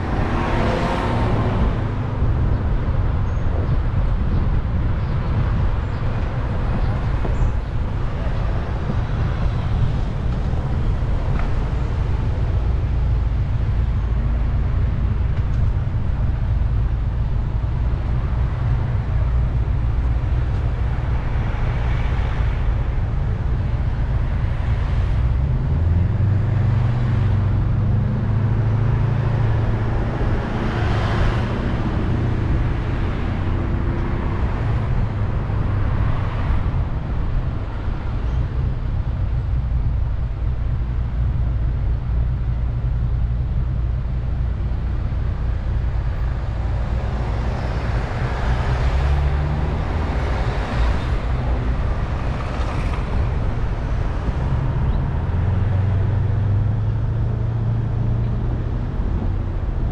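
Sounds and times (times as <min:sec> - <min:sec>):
car engine and road rumble: 0:00.0 - 0:59.9
tyre and road noise: 0:00.0 - 0:59.9.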